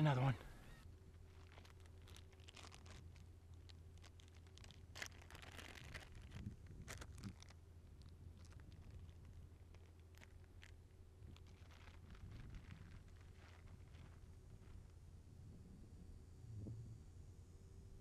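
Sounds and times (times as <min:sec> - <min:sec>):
low steady hum: 0:00.0 - 0:18.0
faint clicks and crackles: 0:00.4 - 0:15.0.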